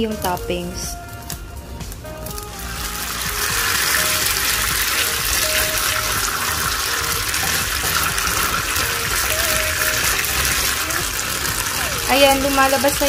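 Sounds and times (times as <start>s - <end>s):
coconut milk sizzling and bubbling: 0.7s - 13.0s.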